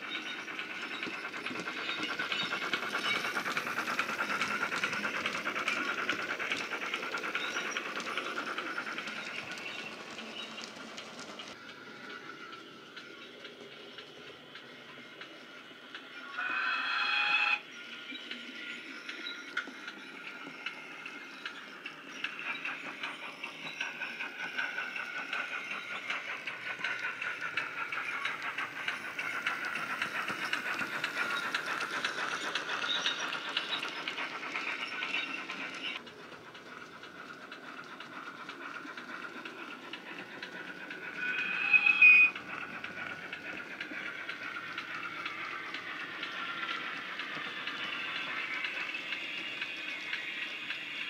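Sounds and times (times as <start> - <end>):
model train chuffing sound: 0.0 - 51.0.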